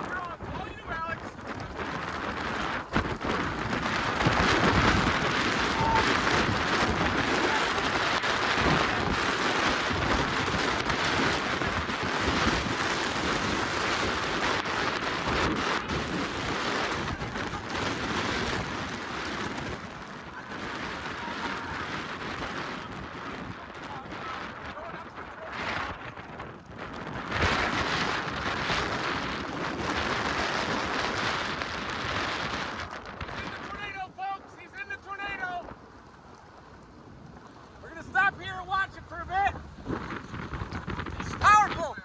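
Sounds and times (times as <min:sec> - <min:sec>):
heavy rain: 0:00.0 - 0:42.0
storm wind: 0:00.0 - 0:42.0.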